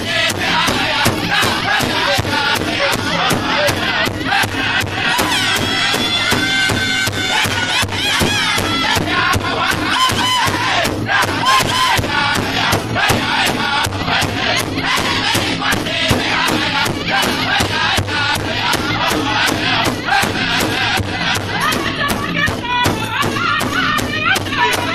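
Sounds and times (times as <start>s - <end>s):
large hide drum beat: 0.0s - 24.9s
men singing together: 0.0s - 24.9s.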